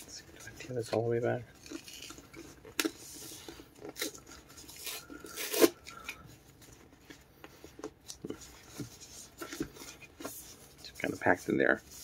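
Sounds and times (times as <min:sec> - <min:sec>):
vinyl gloves rustling: 0:00.0 - 0:12.0.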